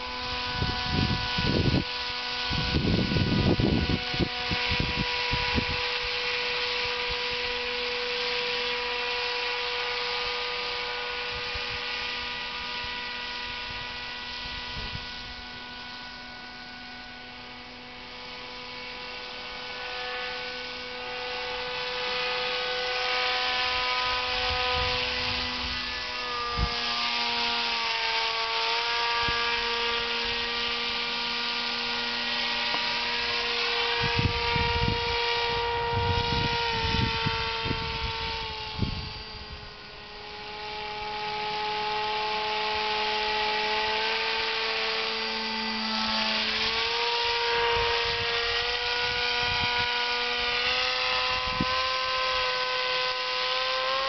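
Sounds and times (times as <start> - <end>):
paramotor engine whine: 0.0 - 54.0.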